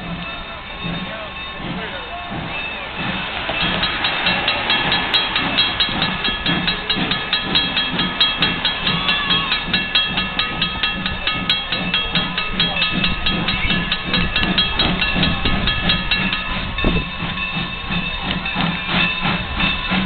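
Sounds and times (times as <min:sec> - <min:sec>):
crossing warning bell ringing: 0:00.0 - 0:20.0
low pulsing: 0:00.0 - 0:20.0.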